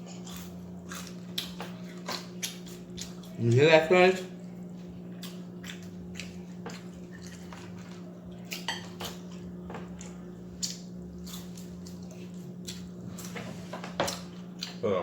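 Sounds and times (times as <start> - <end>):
chewing crispy fried food: 0.0 - 15.0
steady low hum: 0.0 - 15.0.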